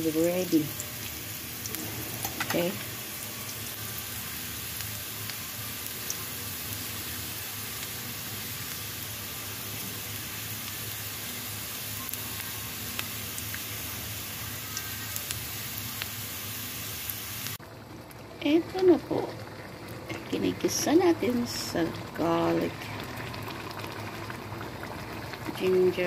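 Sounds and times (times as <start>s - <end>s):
food sizzling in oil: 0.0s - 17.6s, 18.6s - 26.0s.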